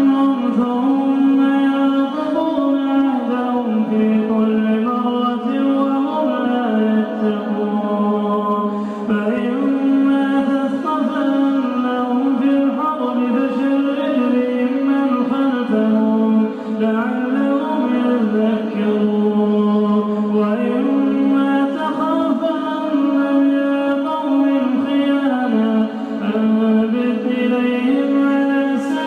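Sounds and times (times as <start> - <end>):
man chanting recitation: 0.0 - 29.0.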